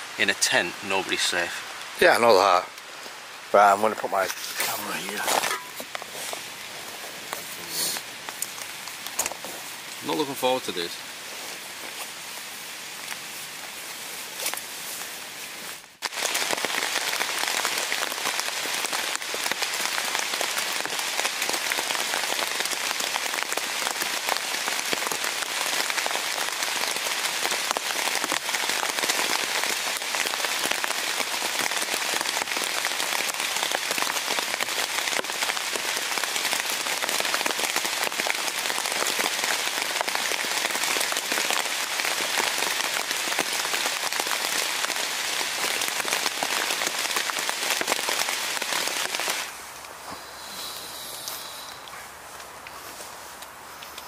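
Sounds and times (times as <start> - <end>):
heavy rain on a tent: 0.0 - 54.0.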